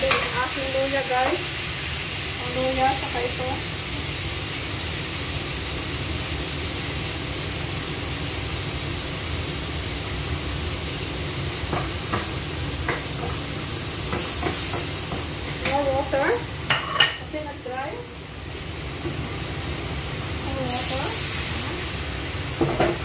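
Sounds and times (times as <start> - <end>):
stir-fry sizzling in a wok: 0.0 - 23.0.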